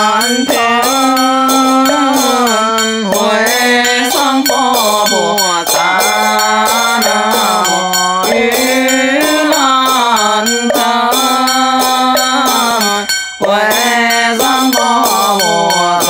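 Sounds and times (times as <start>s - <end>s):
slow liturgical music: 0.0s - 16.0s.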